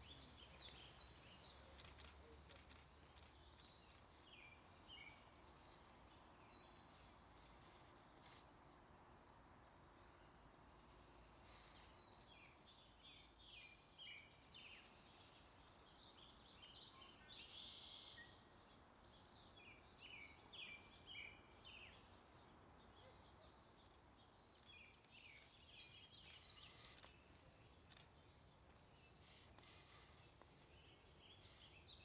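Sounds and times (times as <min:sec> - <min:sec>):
low steady hiss: 0:00.0 - 0:32.0
songbird chirps and trills: 0:00.0 - 0:32.0.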